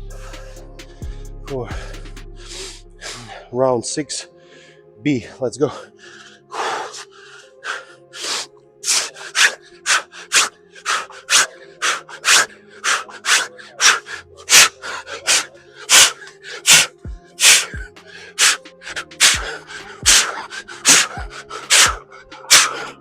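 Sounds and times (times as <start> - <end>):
man breathing hard: 0.0 - 3.6, 4.2 - 23.0
background music: 0.0 - 23.0.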